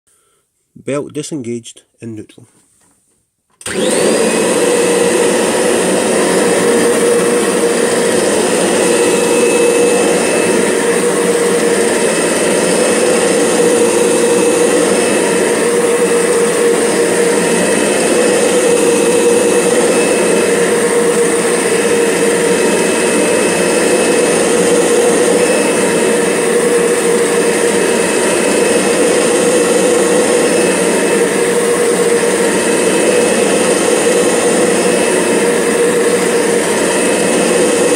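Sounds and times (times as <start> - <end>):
vacuum cleaner motor whining: 3.6 - 37.9.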